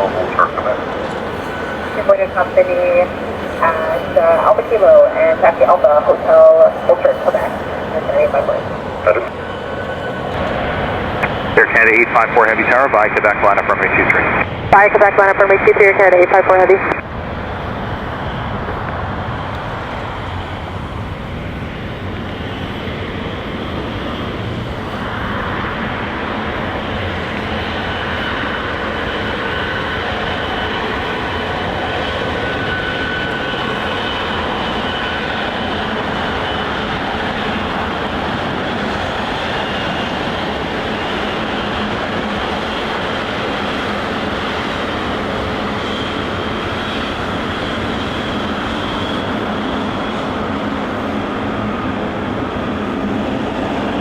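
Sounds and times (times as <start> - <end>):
jet engine noise: 0.0 - 54.0.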